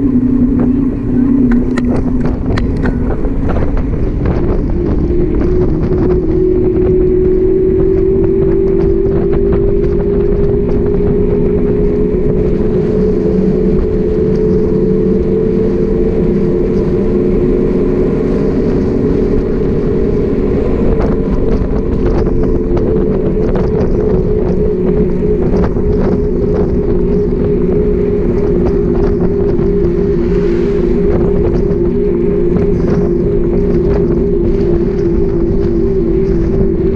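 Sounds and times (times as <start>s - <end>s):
bicycle tyre hum on asphalt: 0.0s - 36.9s
wind rumbling on microphone: 0.0s - 36.9s.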